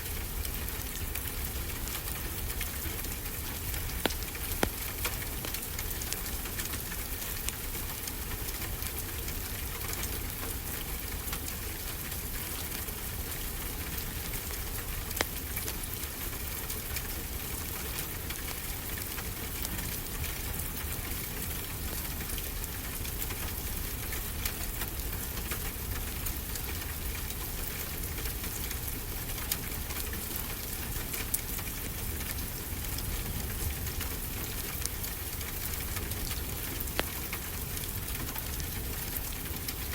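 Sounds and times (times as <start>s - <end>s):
wood fire crackling: 0.1s - 20.0s, 20.7s - 39.9s.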